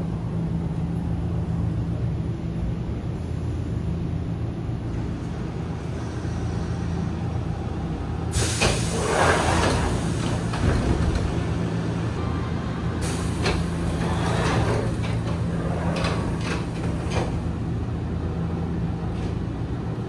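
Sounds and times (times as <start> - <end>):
train equipment humming: 0.0 - 20.0.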